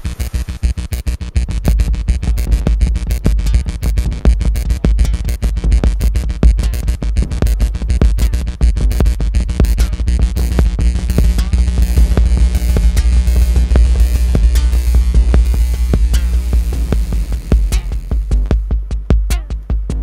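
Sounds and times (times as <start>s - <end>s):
music with fast beat and heavy bass: 0.0s - 20.0s.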